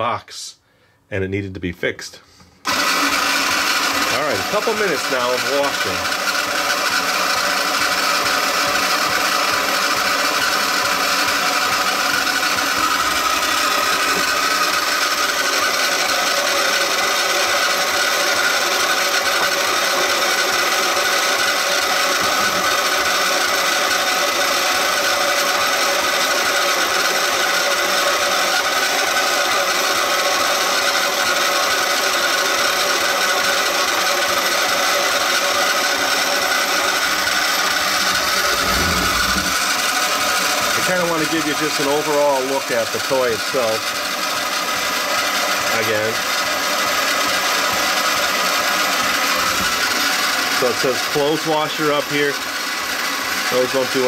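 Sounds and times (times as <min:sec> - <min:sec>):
toy washing machine motor running: 0:02.6 - 0:54.0.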